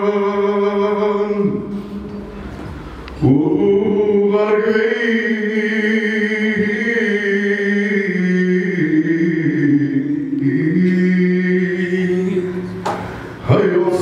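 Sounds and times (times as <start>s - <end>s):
man singing long notes: 0.0s - 2.0s, 3.2s - 14.0s.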